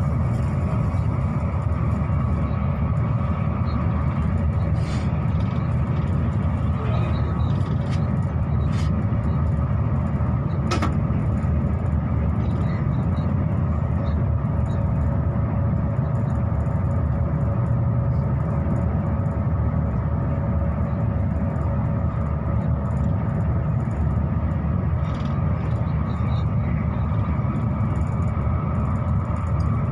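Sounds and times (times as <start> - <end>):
train rumble and hum: 0.0 - 29.9.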